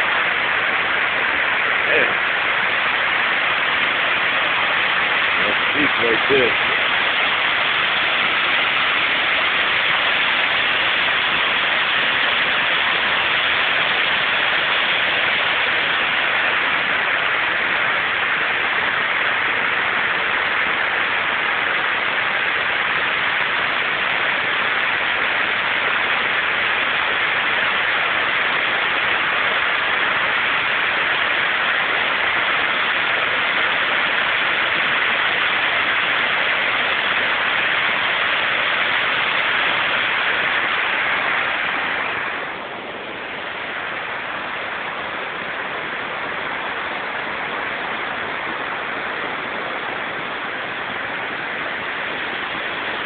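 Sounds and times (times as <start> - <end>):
waterfall pouring and rushing: 0.0 - 53.0.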